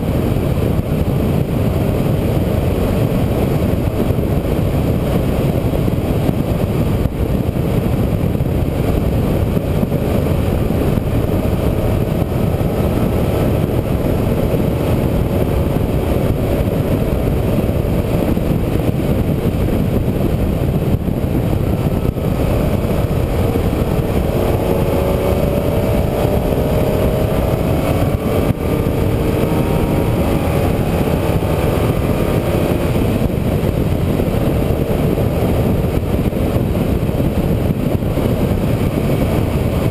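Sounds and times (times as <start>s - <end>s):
engine accelerating: 0.0s - 39.9s
vehicle interior rumble: 0.0s - 39.9s.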